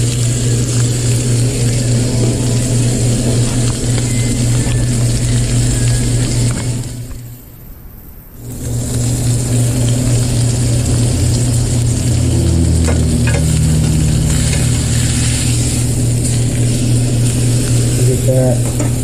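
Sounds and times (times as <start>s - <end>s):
steak sizzling in a pan: 0.0s - 7.4s, 8.4s - 19.0s
gas burner hum: 0.0s - 19.0s.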